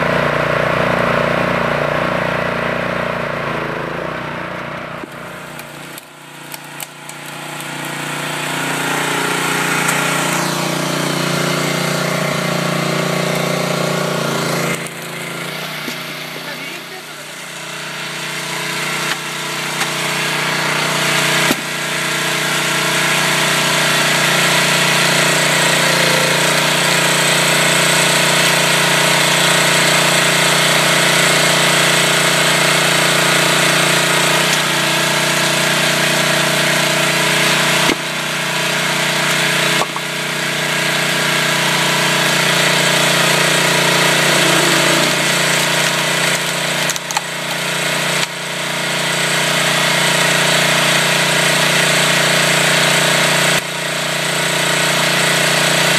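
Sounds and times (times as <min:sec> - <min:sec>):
small petrol engine running: 0:00.0 - 0:55.9.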